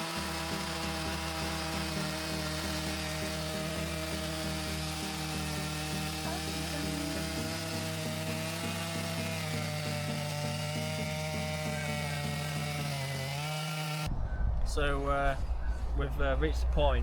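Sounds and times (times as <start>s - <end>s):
chainsaw cutting through log: 0.0s - 14.1s.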